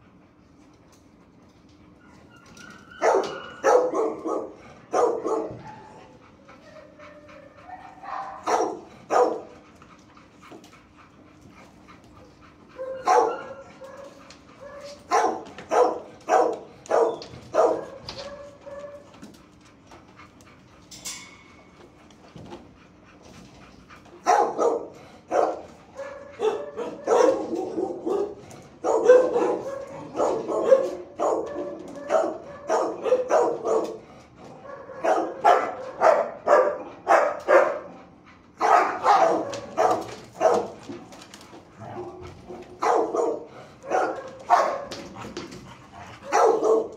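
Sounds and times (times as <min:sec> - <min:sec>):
dogs barking: 0:02.9 - 0:19.8, 0:24.1 - 0:46.9.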